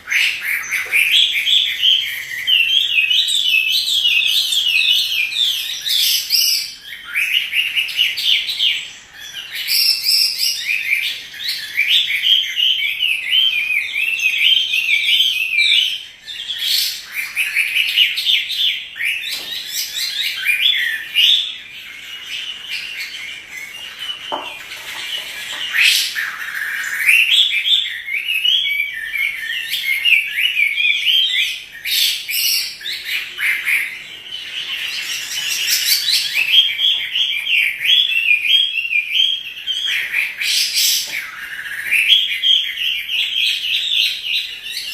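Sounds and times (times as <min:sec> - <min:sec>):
bird singing whistled phrases: 0:00.0 - 0:24.6, 0:25.6 - 0:44.9.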